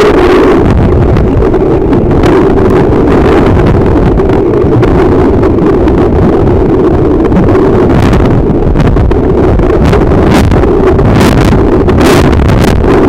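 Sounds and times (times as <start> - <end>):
water rushing against camera housing: 0.0 - 13.0.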